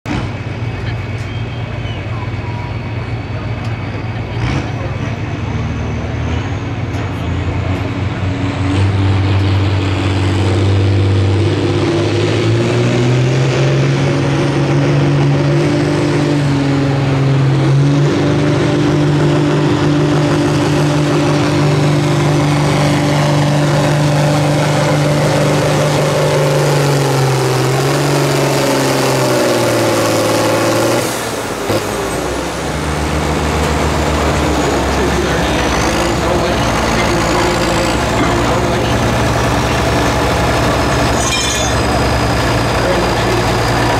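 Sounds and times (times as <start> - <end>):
tractor engine at full throttle: 0.0 - 43.9.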